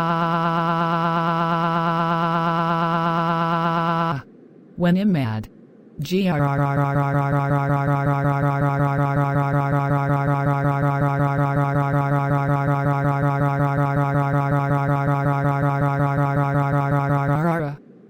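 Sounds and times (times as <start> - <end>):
low wobbling electronic buzz: 0.0 - 4.8, 5.6 - 18.0.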